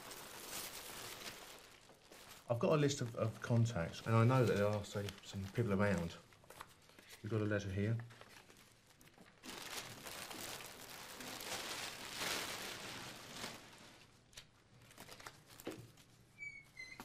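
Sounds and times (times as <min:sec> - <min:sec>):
plastic bag and papers rustling: 0:00.0 - 0:16.4.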